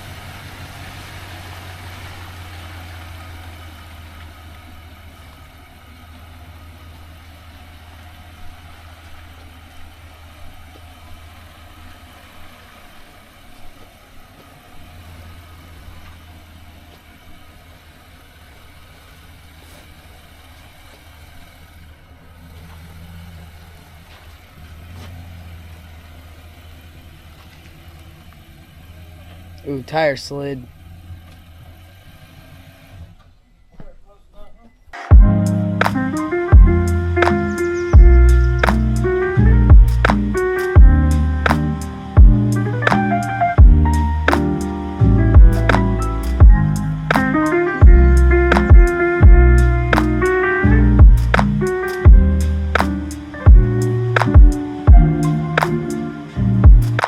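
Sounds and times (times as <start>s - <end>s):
vehicle engine running: 0.0s - 33.5s, 35.0s - 57.0s.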